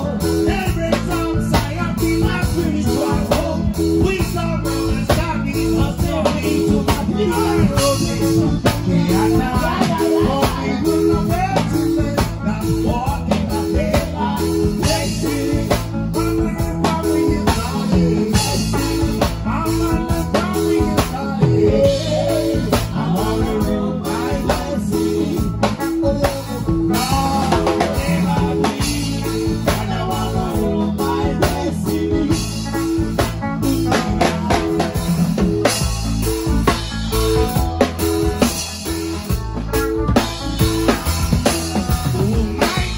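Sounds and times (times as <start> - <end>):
live band playing instrumental: 0.0 - 42.9.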